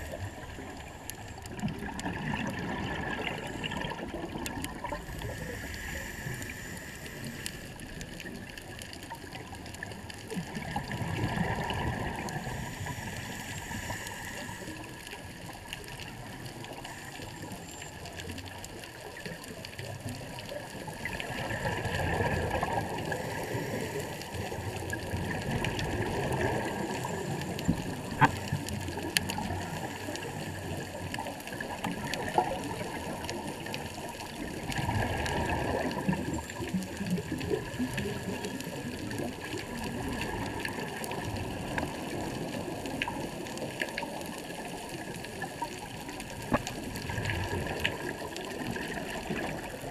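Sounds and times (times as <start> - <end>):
underwater rushing and bubbling: 0.0 - 49.9.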